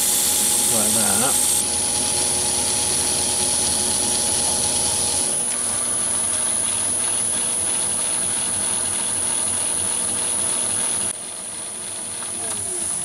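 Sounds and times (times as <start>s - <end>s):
metal lathe running: 0.0s - 11.2s.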